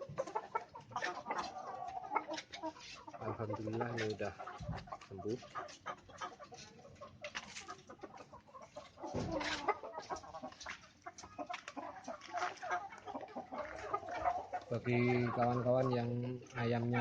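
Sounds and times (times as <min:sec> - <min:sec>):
chicken clucking: 0:00.0 - 0:17.0.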